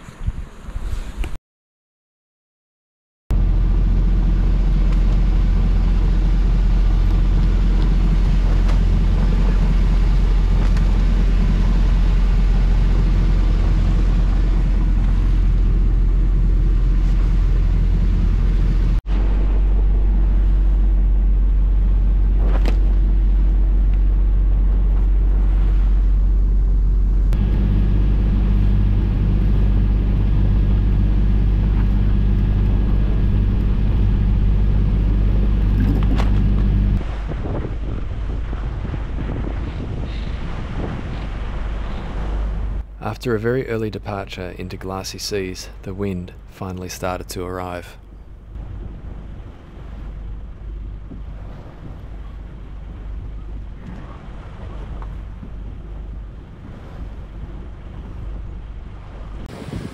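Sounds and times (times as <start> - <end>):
boat diesel engine motoring: 3.3 - 59.9.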